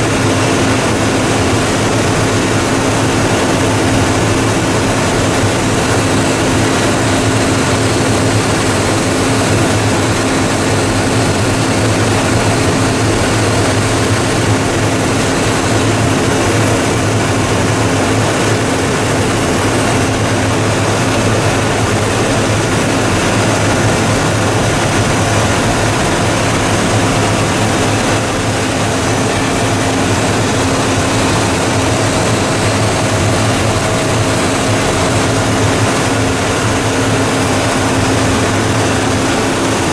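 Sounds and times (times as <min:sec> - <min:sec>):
recycling machine droning: 0:00.0 - 0:39.9.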